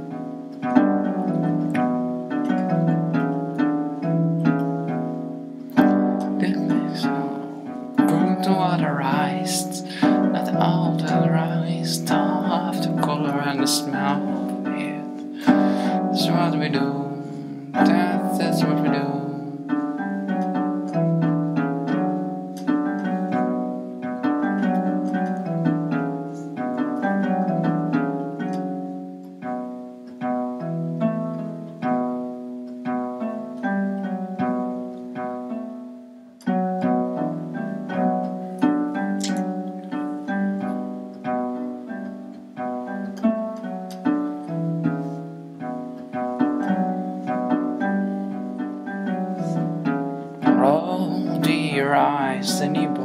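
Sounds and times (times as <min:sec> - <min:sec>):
plucked string music: 0:00.0 - 0:53.0.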